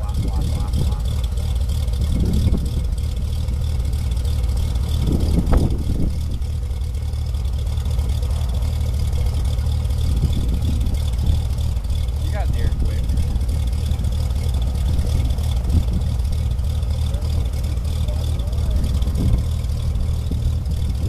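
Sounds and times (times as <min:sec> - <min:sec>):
light aircraft engine drone: 0:00.0 - 0:21.0.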